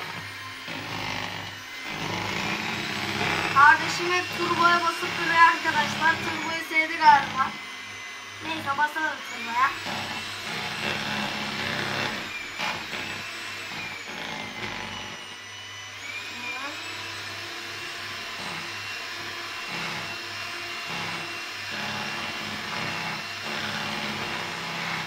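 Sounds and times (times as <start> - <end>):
electric hand mixer whirring: 0.0 - 25.0.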